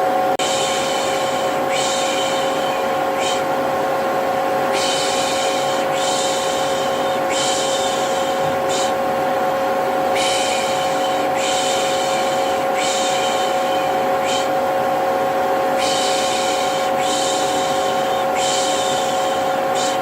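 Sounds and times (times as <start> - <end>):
vacuum cleaner whining: 0.0 - 20.0.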